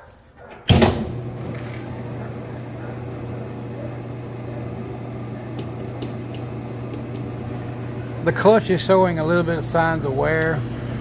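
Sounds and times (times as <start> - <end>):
washing machine motor hum: 0.6 - 11.0.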